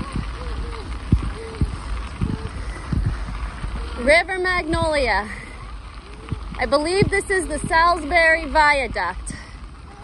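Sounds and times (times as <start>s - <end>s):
bicycle tyres rolling on gravel: 0.0s - 10.0s
wind buffeting microphone: 0.0s - 10.0s.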